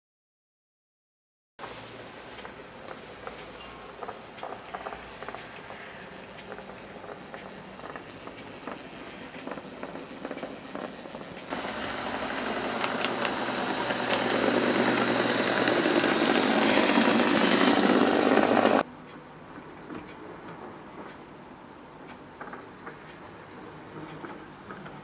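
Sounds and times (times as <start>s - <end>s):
model train motor and wheels: 1.6s - 25.0s
model train track clicks: 1.6s - 25.0s.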